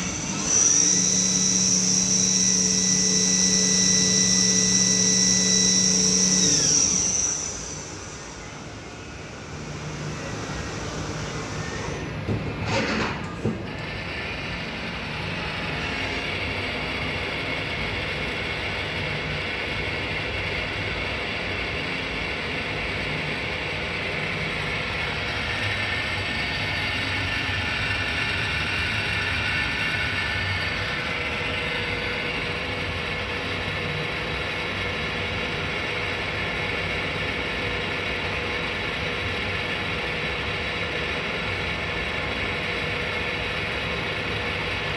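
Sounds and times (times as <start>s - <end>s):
lathe machine running: 0.0s - 44.9s.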